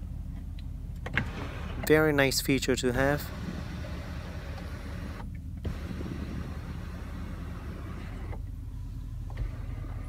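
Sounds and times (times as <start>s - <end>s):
car cabin rumble and hiss: 0.0s - 10.0s.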